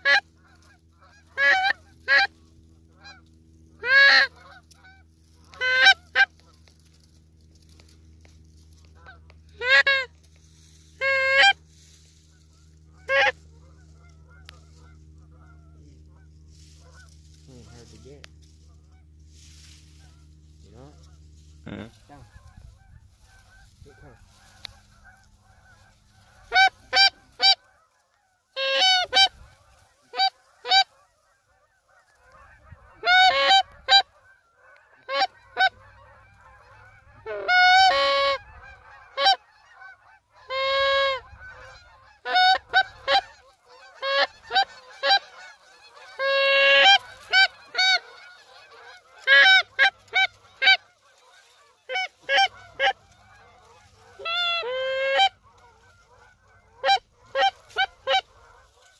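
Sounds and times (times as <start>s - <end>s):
geese honking: 0.0s - 58.9s.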